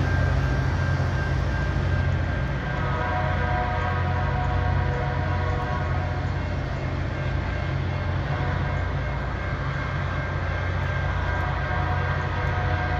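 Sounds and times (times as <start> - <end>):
rail grinder train running: 0.0 - 12.9.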